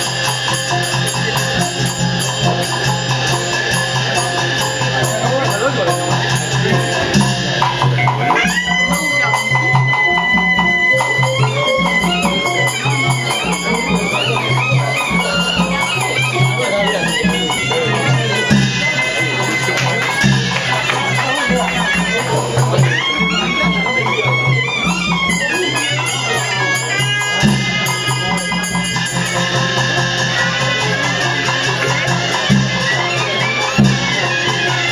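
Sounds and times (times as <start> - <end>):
high reed wind instrument: 0.0 - 34.9
percussion strikes: 0.0 - 34.9
steady drum beat: 0.0 - 34.9.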